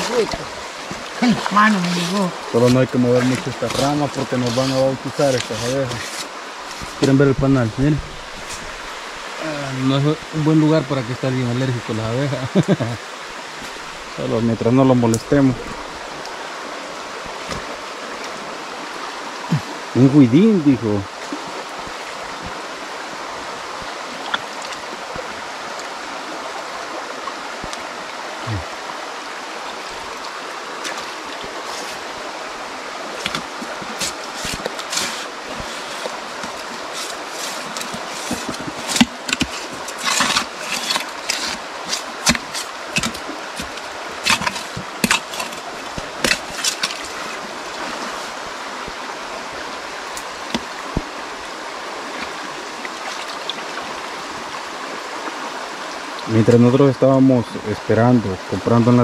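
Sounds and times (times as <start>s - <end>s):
creek water over rocks: 0.0s - 59.0s.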